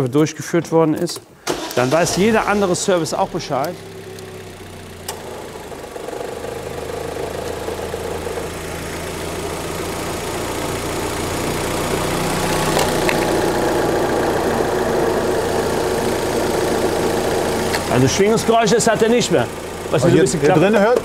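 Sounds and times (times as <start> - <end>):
car engine idling: 1.5 - 21.0.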